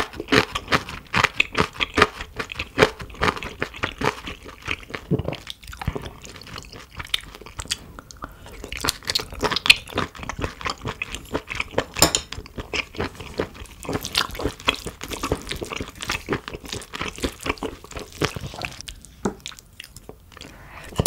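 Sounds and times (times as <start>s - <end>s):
wet chewing and crunching: 0.0s - 21.0s.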